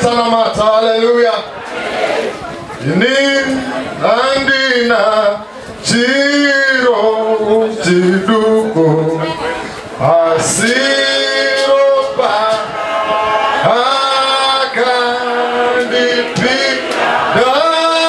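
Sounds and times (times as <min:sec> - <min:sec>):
man singing through pa: 0:02.8 - 0:09.4, 0:10.0 - 0:18.0.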